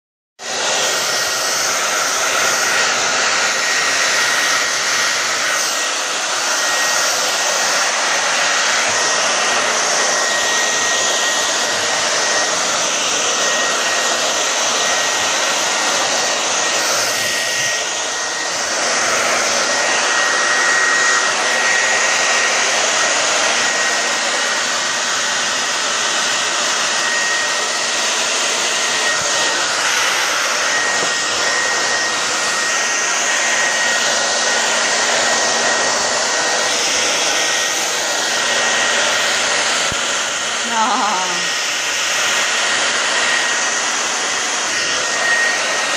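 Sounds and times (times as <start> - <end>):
hair dryer blowing: 0.4 - 45.9.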